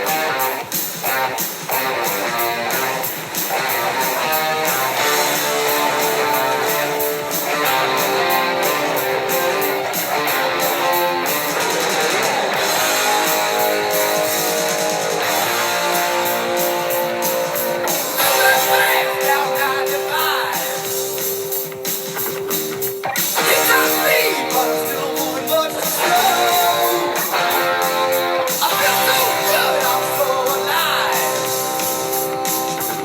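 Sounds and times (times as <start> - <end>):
strummed guitar music with beat: 0.0 - 33.0.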